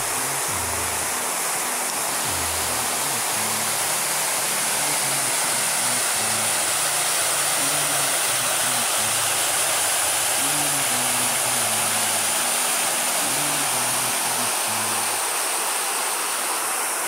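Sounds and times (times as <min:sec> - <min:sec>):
faint background music bass: 0:00.0 - 0:15.2
waterfall rushing over rocks: 0:00.0 - 0:17.0.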